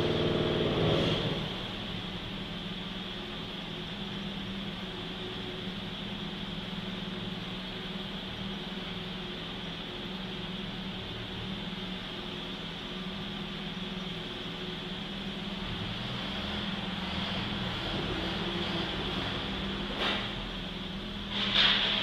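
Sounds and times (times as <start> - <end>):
mechanical hum with high whine: 0.0 - 22.0.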